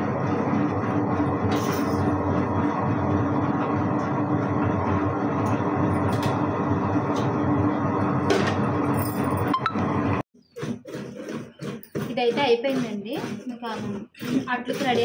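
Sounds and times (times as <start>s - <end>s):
wet grinder humming: 0.0s - 9.0s, 9.6s - 15.0s.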